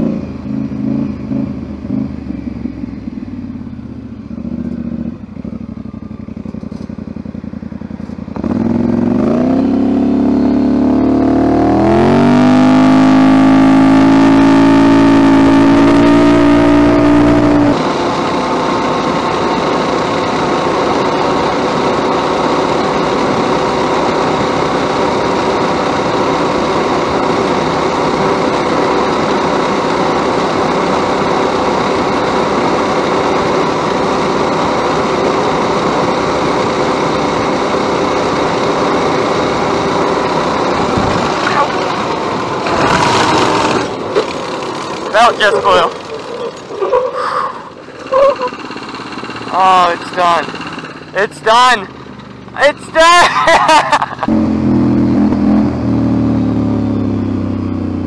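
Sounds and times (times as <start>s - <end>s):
go-kart engine revving: 4.4s - 58.0s.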